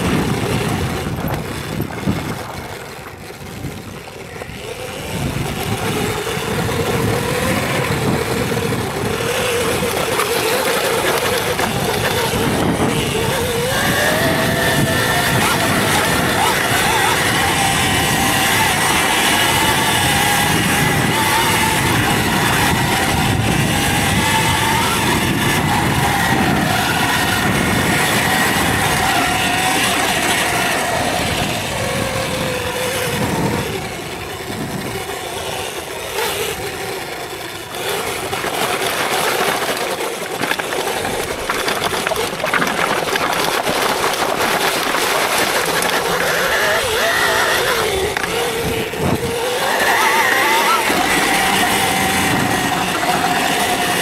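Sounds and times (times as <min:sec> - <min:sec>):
electric motor whine: 0:00.0 - 0:54.0
steady rushing noise: 0:00.0 - 0:54.0.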